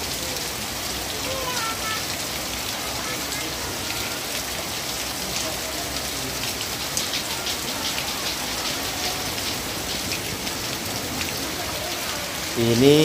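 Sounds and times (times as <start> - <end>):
rain hissing: 0.0 - 13.0
raindrops splashing: 0.0 - 13.0.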